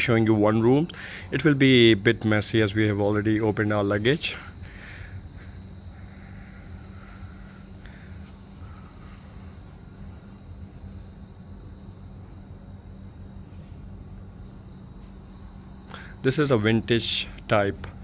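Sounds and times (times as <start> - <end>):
crickets chirping: 0.0 - 18.0
low steady hum: 0.0 - 18.0.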